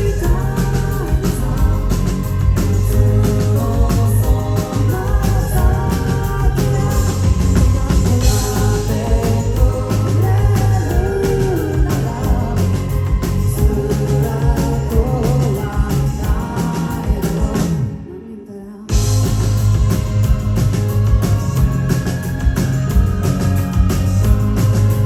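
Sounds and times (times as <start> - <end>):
rock band playing live: 0.0 - 18.0, 18.9 - 25.0.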